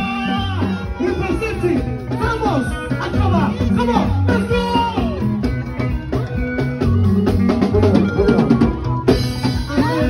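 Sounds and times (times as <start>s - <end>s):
drum kit beat: 0.0s - 10.0s
live band music: 0.0s - 10.0s.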